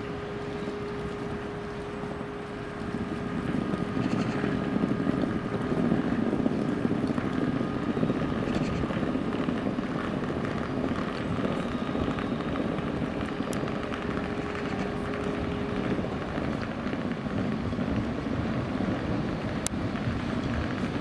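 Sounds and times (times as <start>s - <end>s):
electric train rumble: 0.0s - 21.0s
faint steady whine: 0.0s - 21.0s.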